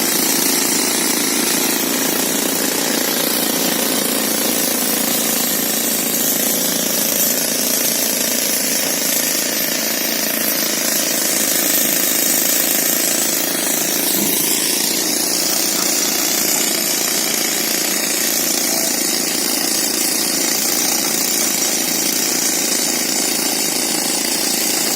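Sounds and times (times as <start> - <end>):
pneumatic rock drill hammering: 0.0 - 24.9.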